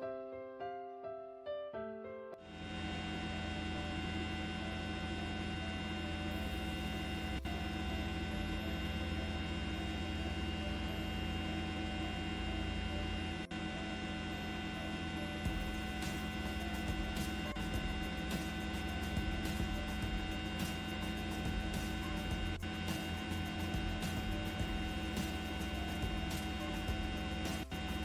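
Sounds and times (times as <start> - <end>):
steady multi-tone hum: 2.4 - 28.0.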